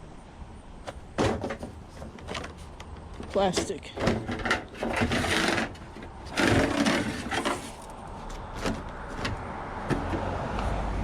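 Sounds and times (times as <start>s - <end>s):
items rustling and clattering: 0.9s - 10.2s.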